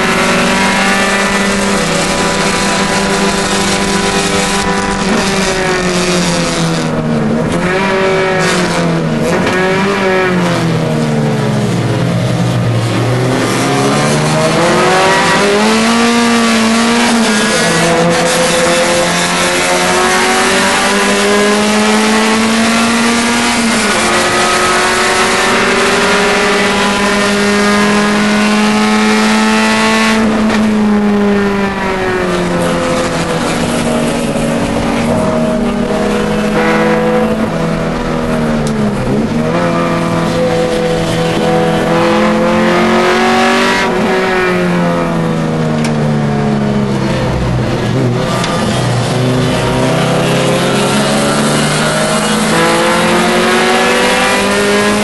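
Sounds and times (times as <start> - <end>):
racing engine revving: 0.0 - 55.0.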